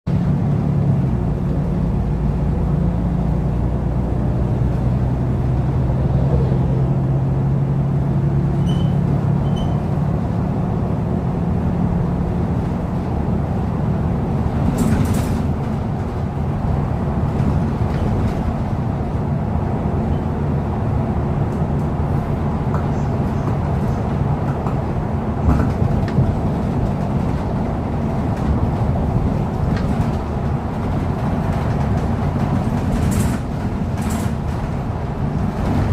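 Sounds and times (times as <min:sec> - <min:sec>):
bus engine drone: 0:00.1 - 0:35.9
road and rolling noise: 0:00.1 - 0:35.9.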